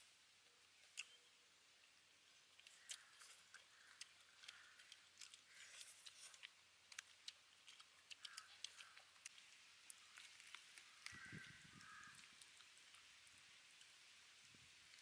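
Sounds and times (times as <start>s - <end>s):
crispy fried fish crackling: 2.5s - 15.0s.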